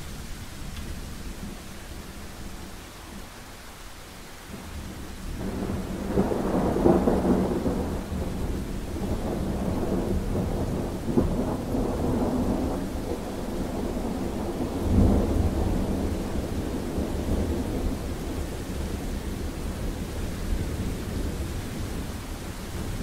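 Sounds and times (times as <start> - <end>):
steady rain: 0.0 - 23.0
thunder rumbling: 4.5 - 23.0.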